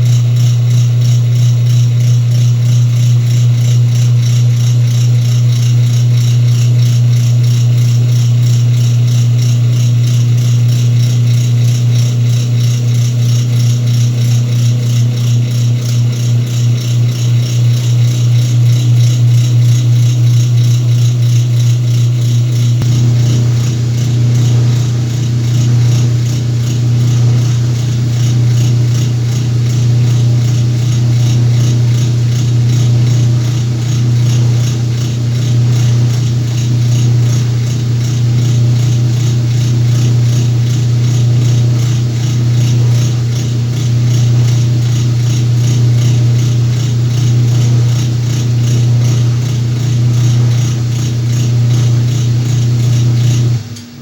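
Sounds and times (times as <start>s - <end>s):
washing machine humming and rattling: 0.0s - 54.0s.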